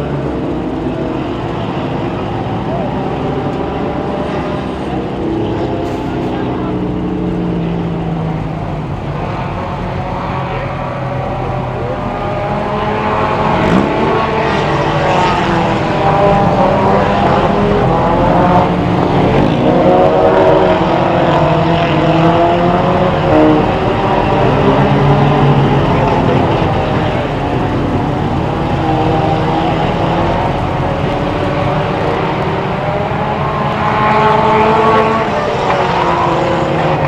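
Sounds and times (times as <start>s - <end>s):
race car engines: 0.0s - 37.0s.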